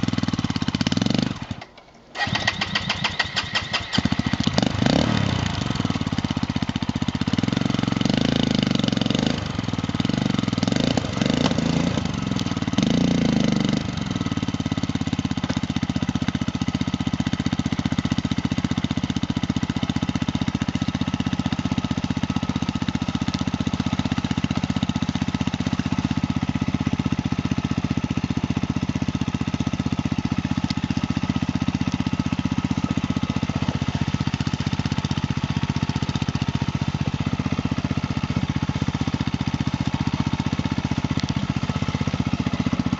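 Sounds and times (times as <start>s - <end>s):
quad engine revving: 0.0s - 42.9s.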